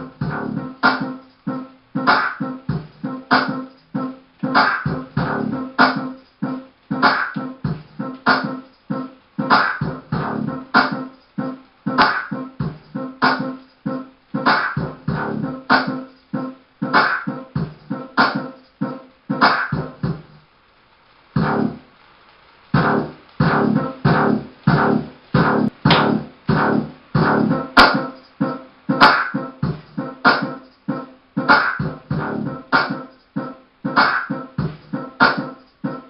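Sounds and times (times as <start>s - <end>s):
dance music with punchy beat: 0.0s - 20.4s, 22.8s - 36.0s.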